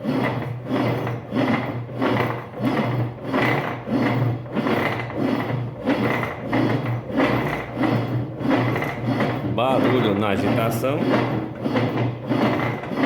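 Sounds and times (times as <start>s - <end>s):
washing machine agitator strokes: 0.0s - 13.0s.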